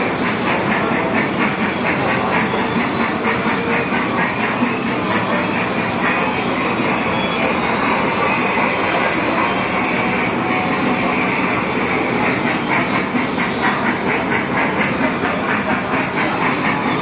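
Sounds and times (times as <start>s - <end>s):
ride train rumbling on track: 0.0s - 17.0s.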